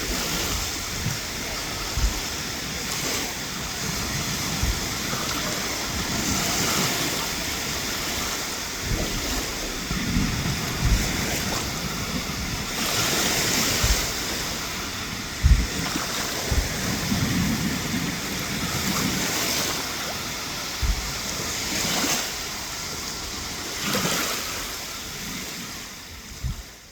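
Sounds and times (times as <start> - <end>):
surf washing onto beach: 0.0 - 26.9
wind thumps on microphone: 0.0 - 26.9.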